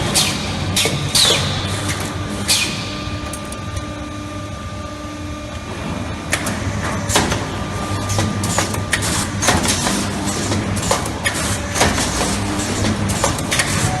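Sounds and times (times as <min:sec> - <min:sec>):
welding machine humming: 0:00.0 - 0:14.0.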